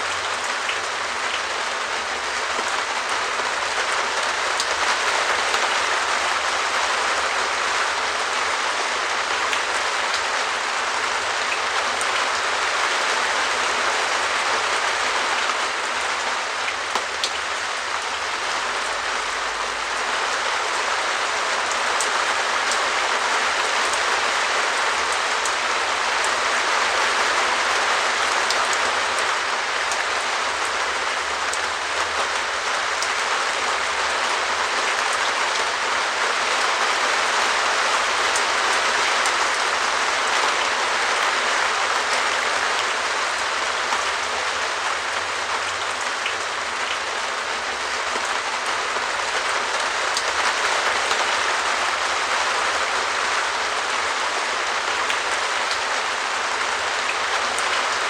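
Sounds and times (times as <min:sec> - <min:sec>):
rain patter on plastic roof: 0:00.0 - 0:58.0.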